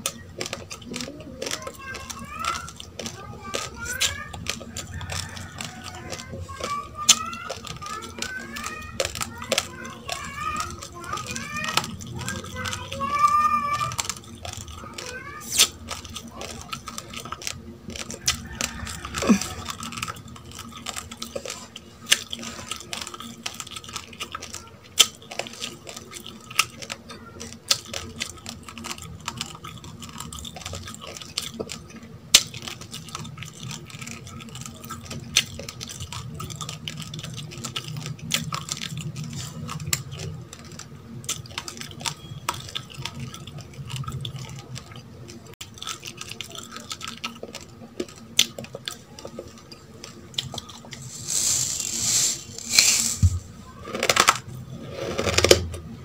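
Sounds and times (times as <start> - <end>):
rice crunching between teeth: 0.0 - 55.9.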